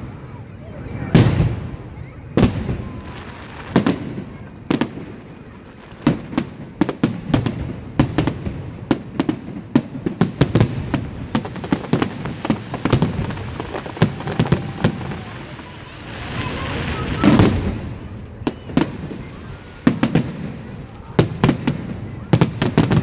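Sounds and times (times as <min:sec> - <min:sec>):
fireworks bursting with bangs: 0:00.0 - 0:23.0.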